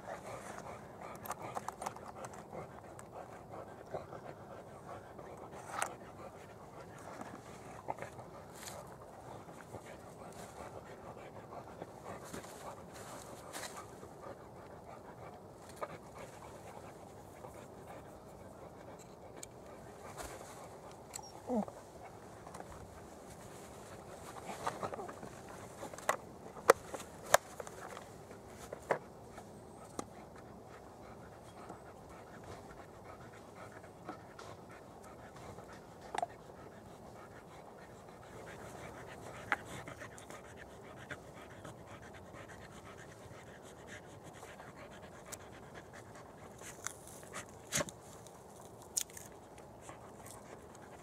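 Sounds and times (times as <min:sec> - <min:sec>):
dog panting: 0:00.0 - 0:51.0.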